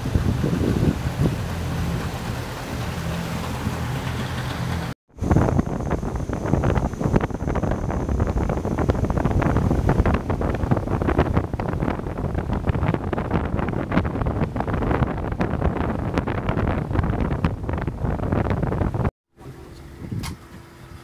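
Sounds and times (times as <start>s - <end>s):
wind buffeting microphone: 0.0s - 19.1s, 19.7s - 21.0s
motorboat rushing on water: 0.0s - 21.0s.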